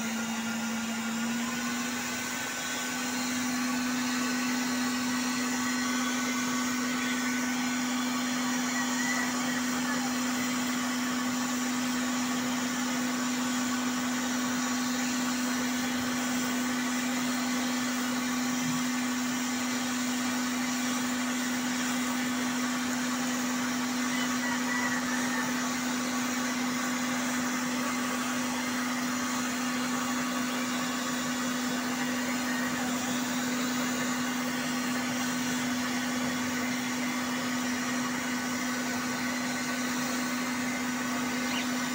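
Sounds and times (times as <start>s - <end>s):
electric blower humming: 0.0s - 41.9s.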